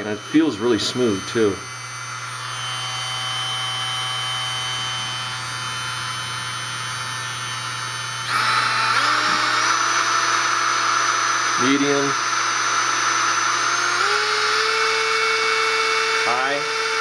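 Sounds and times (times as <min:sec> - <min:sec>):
rotary tool whining: 0:00.0 - 0:17.0.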